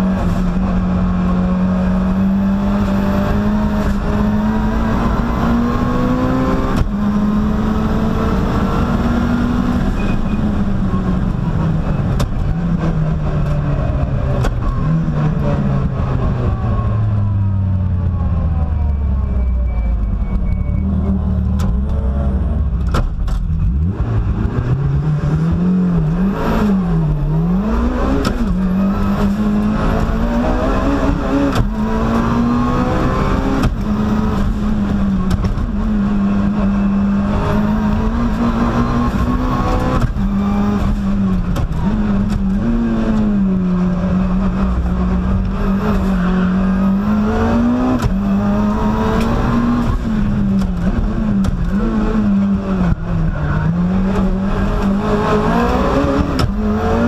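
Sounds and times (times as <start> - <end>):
race car engine from inside cabin: 0.0 - 57.0.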